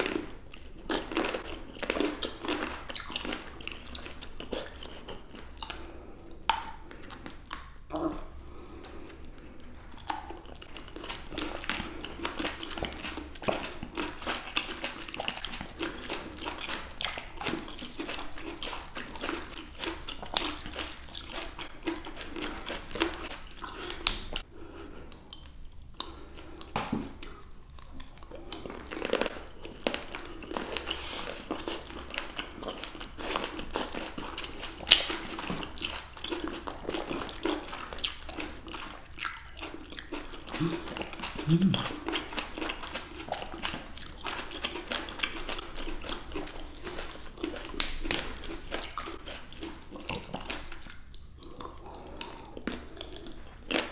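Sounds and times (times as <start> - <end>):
people chewing grapes: 0.0 - 53.9.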